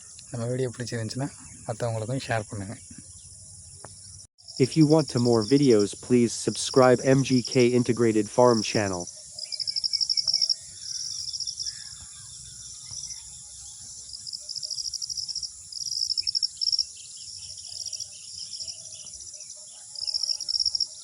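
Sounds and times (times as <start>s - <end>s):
crickets trilling in bursts: 0.0s - 21.0s
high-pitched insect hiss: 0.0s - 21.0s.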